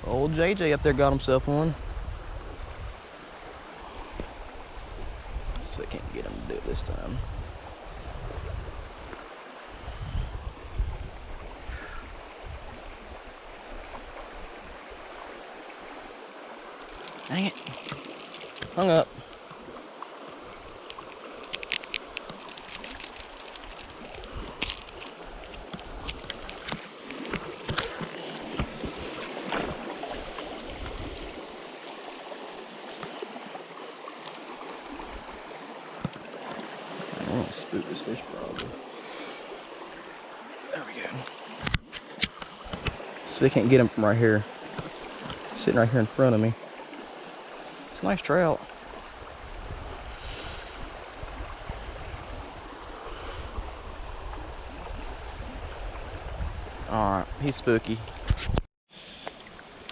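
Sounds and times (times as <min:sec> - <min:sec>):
creek water running: 0:00.0 - 0:59.9.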